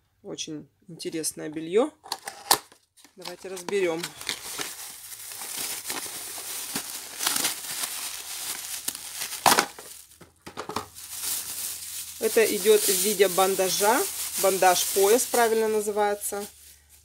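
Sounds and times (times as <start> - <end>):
cardboard packaging handled: 2.5 - 16.8
plastic bag crinkling: 3.0 - 17.0.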